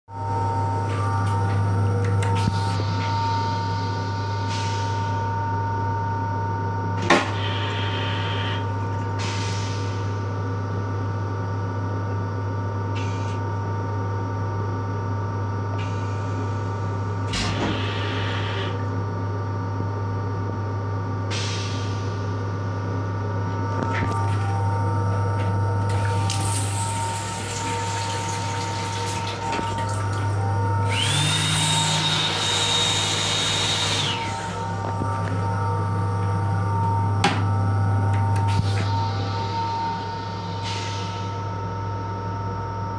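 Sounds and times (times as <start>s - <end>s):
railcar steady hum: 0.1s - 31.2s, 32.2s - 42.9s.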